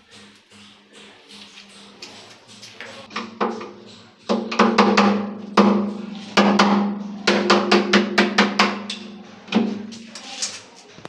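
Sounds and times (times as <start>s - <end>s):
hammer knocking on chisel: 0.1s - 9.8s.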